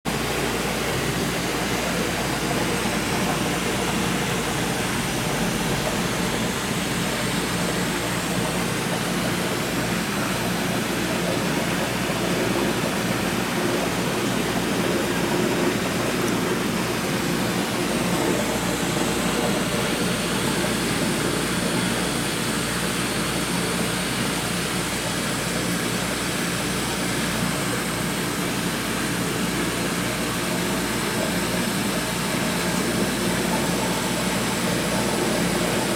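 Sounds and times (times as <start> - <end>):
tank pumps and aeration hum: 0.1 - 35.9.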